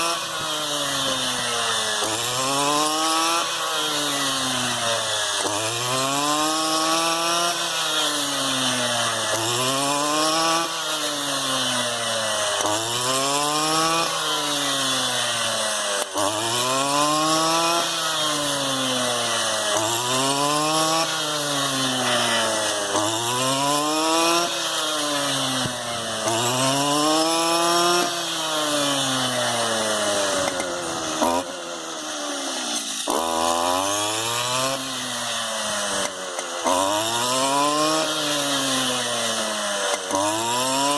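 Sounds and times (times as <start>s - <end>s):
brushcutter engine at high revs: 0.0s - 40.9s.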